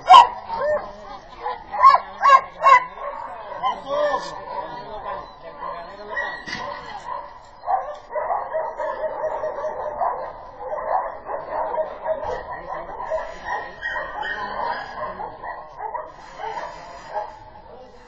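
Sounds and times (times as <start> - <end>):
dog barking: 0.0 - 18.0.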